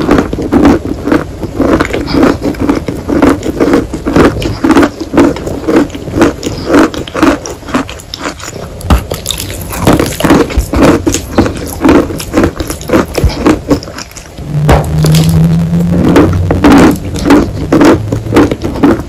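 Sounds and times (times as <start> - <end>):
chewing wet chalk: 0.0 - 14.4, 16.0 - 19.0.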